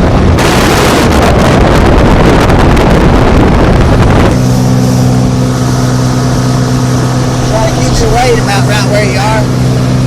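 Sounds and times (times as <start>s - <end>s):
boat rushing through water: 0.0s - 10.0s
wind buffeting microphone: 0.0s - 10.0s.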